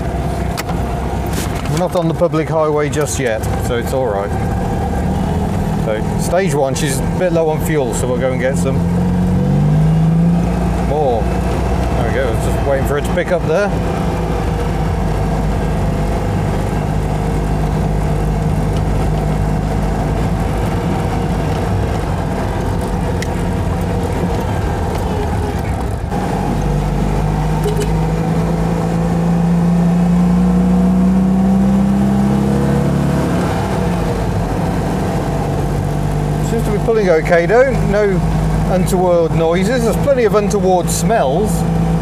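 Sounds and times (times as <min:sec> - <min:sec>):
car engine heard from inside cabin: 0:00.0 - 0:42.0.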